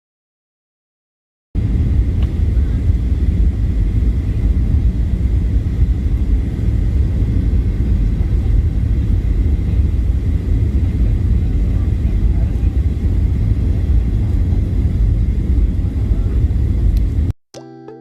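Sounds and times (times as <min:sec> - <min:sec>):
airliner engines rumbling in cabin: 0:01.6 - 0:17.3.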